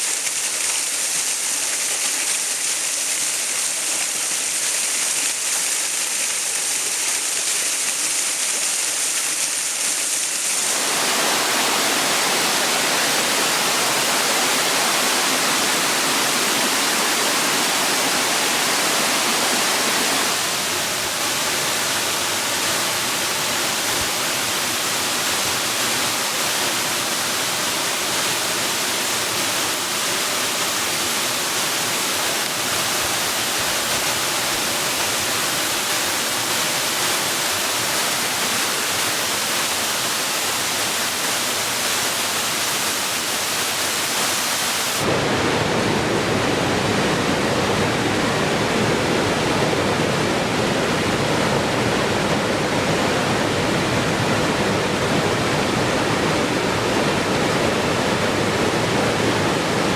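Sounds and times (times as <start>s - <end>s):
falling water rushing: 0.0s - 59.9s.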